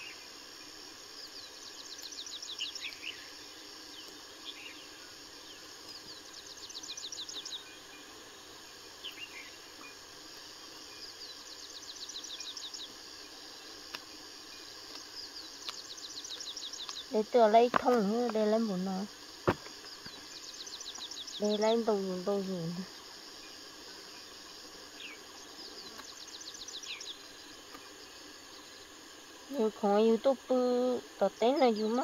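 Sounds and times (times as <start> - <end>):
insects hissing: 0.0 - 32.0.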